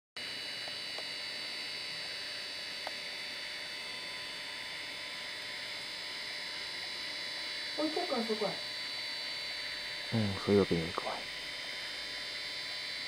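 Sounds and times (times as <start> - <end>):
camcorder self-noise hiss: 0.2 - 13.0.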